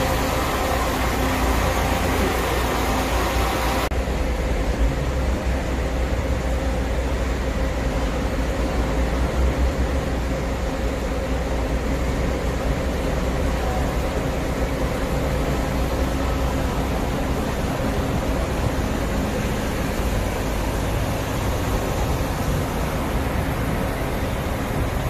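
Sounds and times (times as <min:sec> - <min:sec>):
bus engine rumble: 0:00.0 - 0:25.0
faint steady hum: 0:00.0 - 0:25.0.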